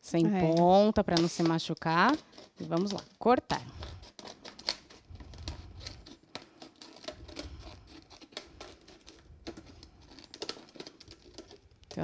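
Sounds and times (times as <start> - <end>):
plastic crackling: 0.1 - 12.0
scissors cutting plastic bottle: 0.2 - 12.0.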